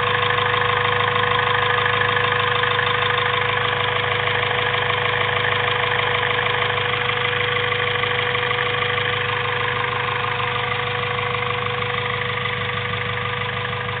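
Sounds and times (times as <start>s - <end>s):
car engine idling: 0.0s - 14.0s
constant whining tone: 0.0s - 14.0s.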